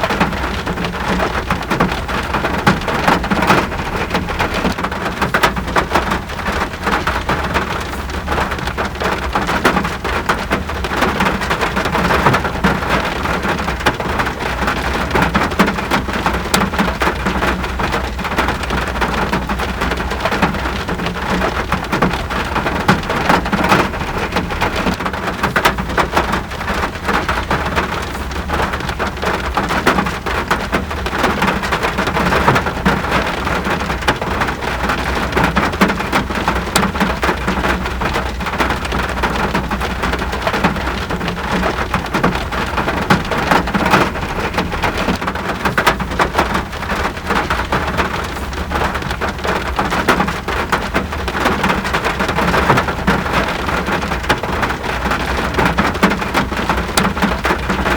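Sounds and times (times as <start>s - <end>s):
raindrops ticking on a surface: 0.0s - 57.9s
steady rain falling: 0.0s - 57.9s.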